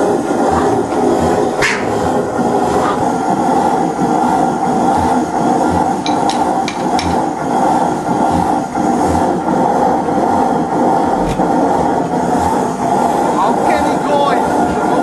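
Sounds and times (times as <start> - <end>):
stationary engine thudding: 0.0 - 15.0
steady mechanical din: 0.0 - 15.0.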